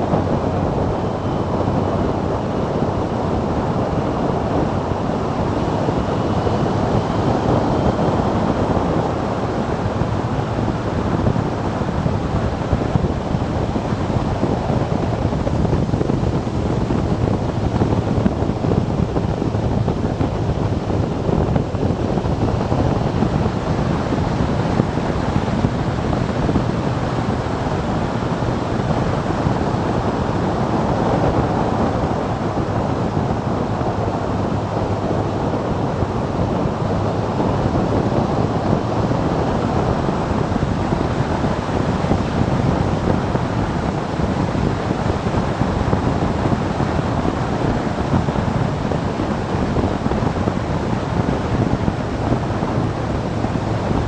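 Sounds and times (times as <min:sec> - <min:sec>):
road noise: 0:00.0 - 0:54.0
wind rushing over microphone: 0:00.0 - 0:54.0.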